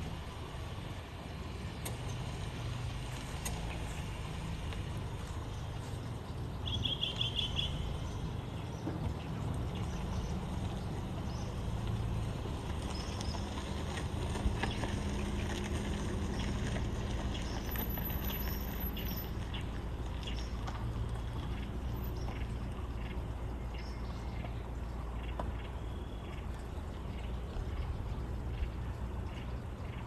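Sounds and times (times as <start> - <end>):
steady low rumble: 0.0 - 30.0
birds chirping: 0.2 - 30.0.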